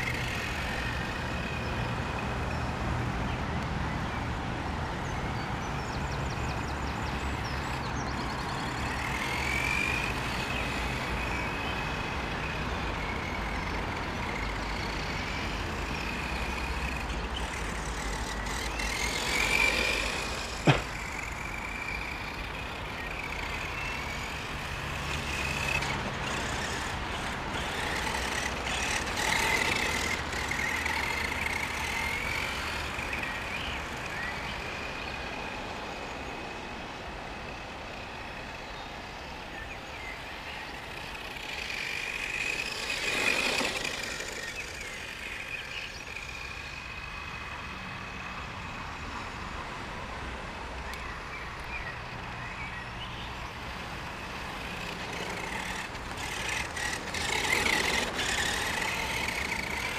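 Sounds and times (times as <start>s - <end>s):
electric motor whining: 0.0s - 3.8s, 4.9s - 49.7s, 50.9s - 59.9s.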